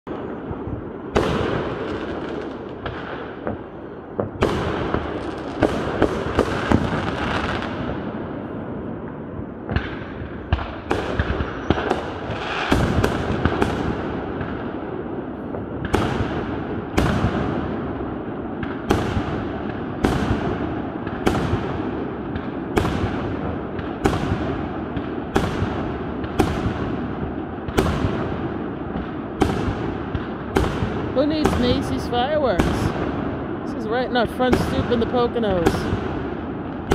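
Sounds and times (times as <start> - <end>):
fireworks bangs echoing: 0.0 - 36.9.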